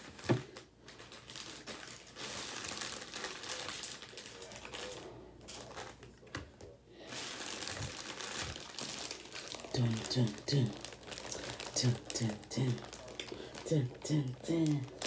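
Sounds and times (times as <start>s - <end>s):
wrapping crinkling and rustling: 0.0s - 15.0s.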